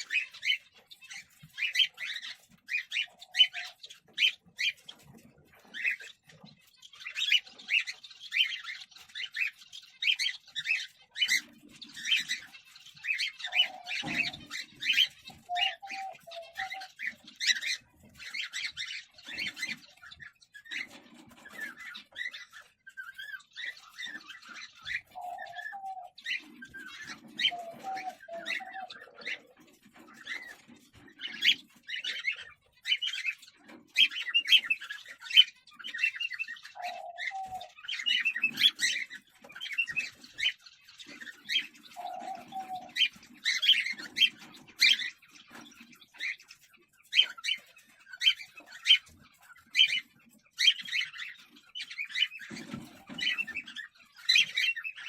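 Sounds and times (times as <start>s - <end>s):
cockatiels chirping: 0.0s - 55.0s.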